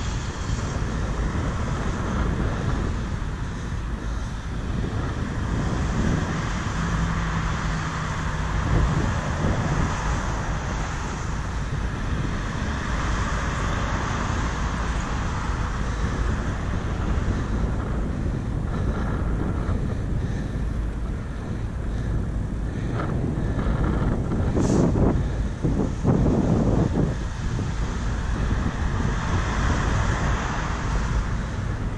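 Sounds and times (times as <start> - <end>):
low rumble: 0.0 - 31.9
wind on microphone: 0.0 - 31.9.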